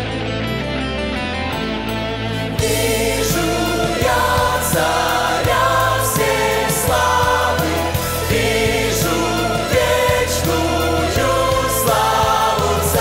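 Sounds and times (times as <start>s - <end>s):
held bass notes: 0.0s - 13.0s
mixed choir singing: 2.6s - 13.0s.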